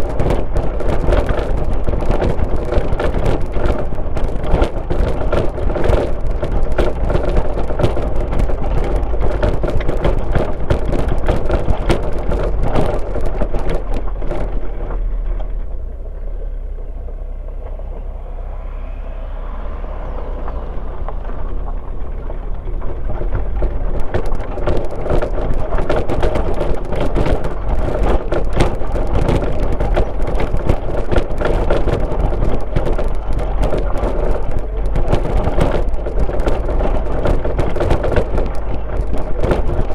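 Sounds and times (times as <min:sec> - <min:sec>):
car tyres and engine rumbling: 0:00.0 - 0:39.9
rattling and crackling: 0:00.0 - 0:39.9.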